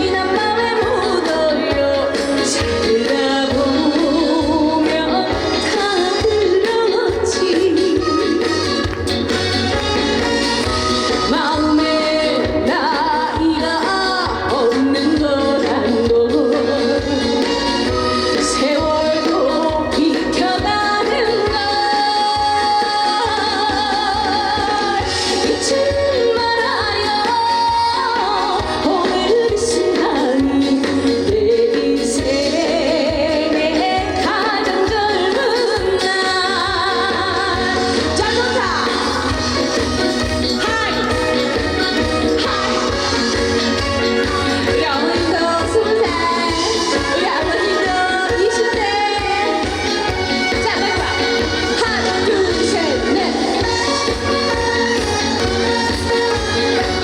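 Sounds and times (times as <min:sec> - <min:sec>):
amplified backing band track: 0:00.0 - 0:57.0
woman singing with vibrato: 0:00.0 - 0:57.0.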